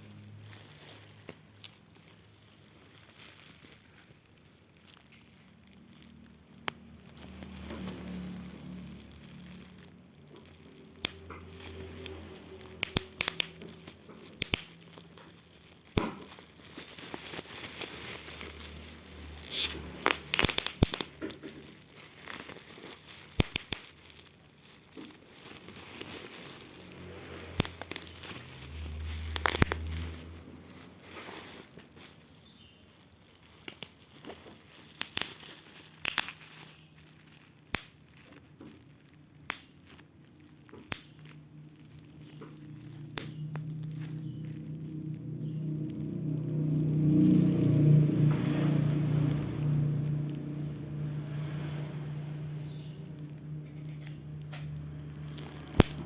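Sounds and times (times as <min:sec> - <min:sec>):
packaging crinkling and tearing: 0:00.0 - 0:56.0.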